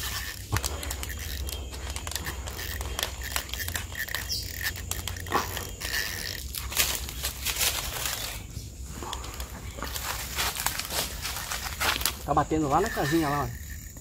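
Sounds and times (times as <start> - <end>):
fishing reel clicks and rustles: 0.0 - 14.0.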